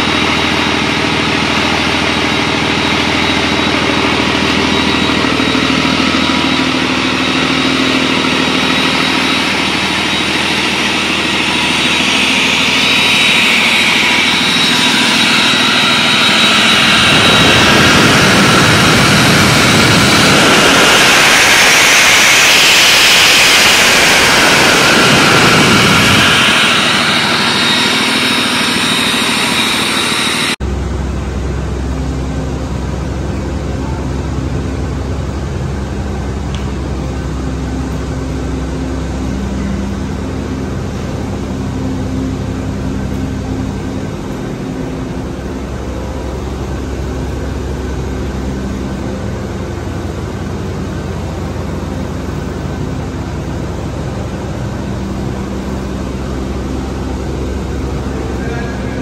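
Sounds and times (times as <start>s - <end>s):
diesel engine running loudly: 0.0s - 59.0s.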